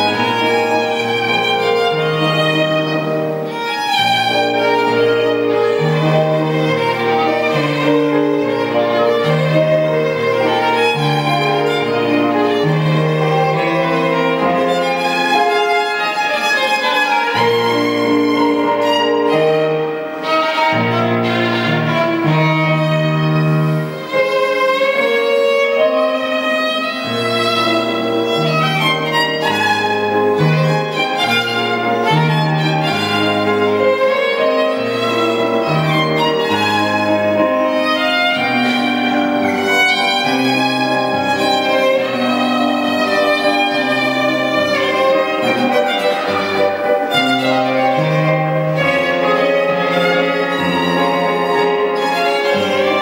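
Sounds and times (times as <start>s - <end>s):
electronic keyboard accompaniment: 0.0s - 53.0s
violin melody: 0.0s - 53.0s.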